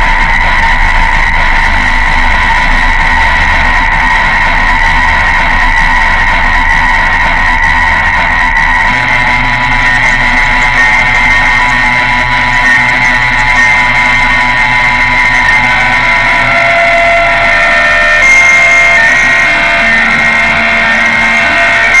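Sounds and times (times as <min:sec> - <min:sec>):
bass drone: 0:00.0 - 0:22.0
harsh noise drone music: 0:00.0 - 0:22.0.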